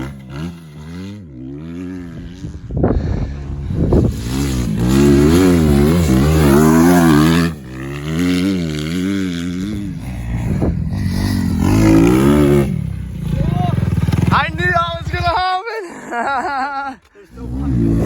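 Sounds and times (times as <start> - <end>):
motocross bike engine revving: 0.0 - 15.6, 16.4 - 18.0.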